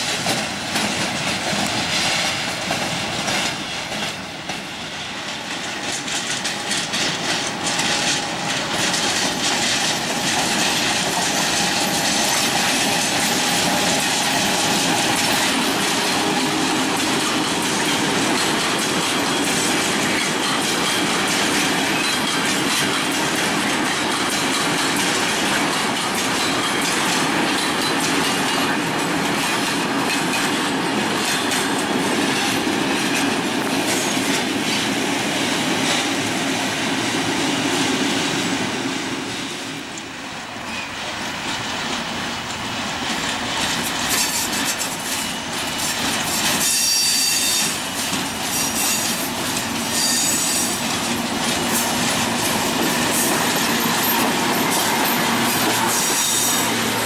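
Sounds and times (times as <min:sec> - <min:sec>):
diesel locomotive passing: 0:00.0 - 0:57.0
train wheels on rails: 0:00.0 - 0:57.0.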